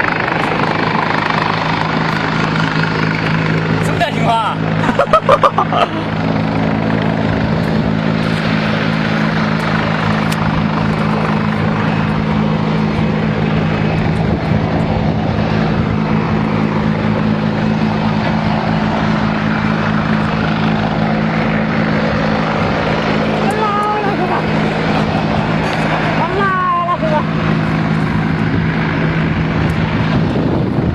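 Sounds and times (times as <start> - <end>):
helicopter flying overhead: 0.0 - 30.9.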